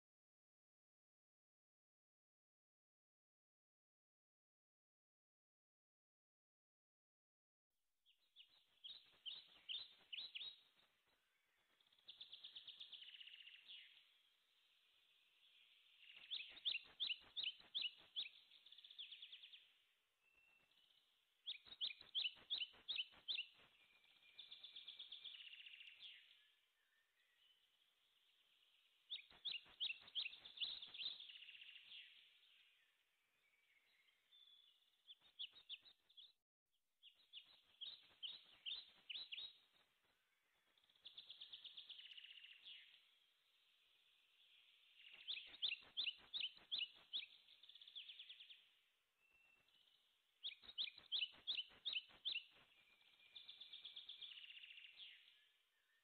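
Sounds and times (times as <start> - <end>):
songbird chirping and warbling: 8.1 - 36.4, 37.0 - 56.0.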